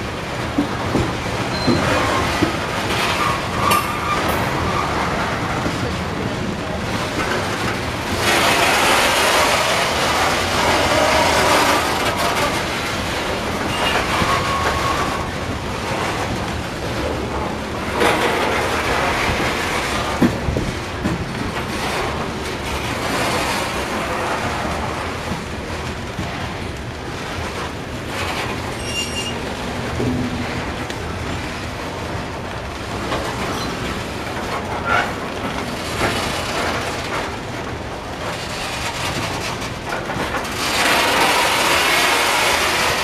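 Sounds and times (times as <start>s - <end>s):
freight train rolling past: 0.0s - 43.0s
wheels clicking over rail joints: 0.0s - 43.0s.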